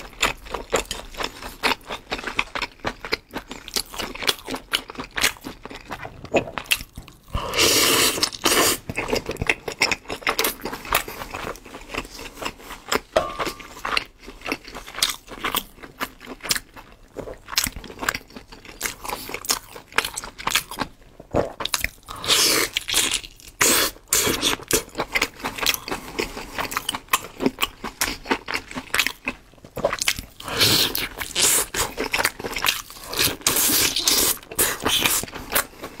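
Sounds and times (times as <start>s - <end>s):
man chewing food: 0.0s - 36.0s.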